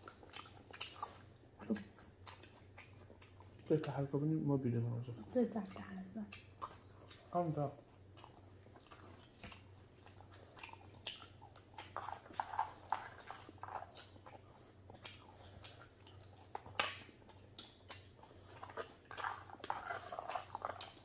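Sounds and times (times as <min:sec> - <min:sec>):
people chewing and lip-smacking: 0:00.0 - 0:21.0.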